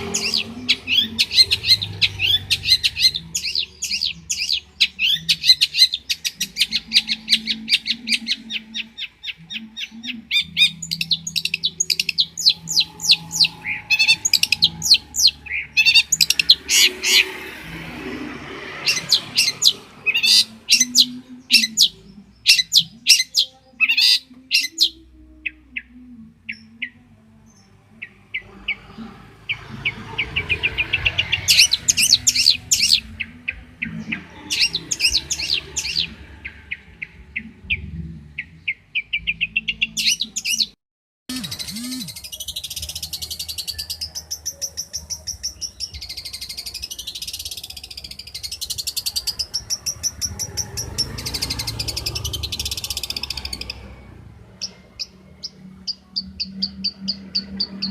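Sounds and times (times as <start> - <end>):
bird singing chirps and trills: 0.0 - 57.9.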